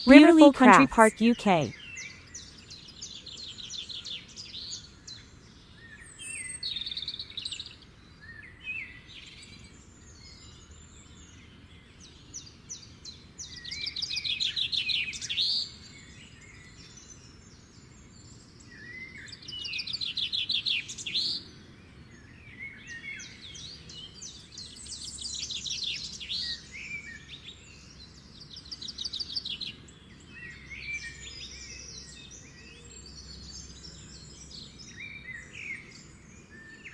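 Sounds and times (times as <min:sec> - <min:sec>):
songbirds singing trills: 0:01.7 - 0:36.9.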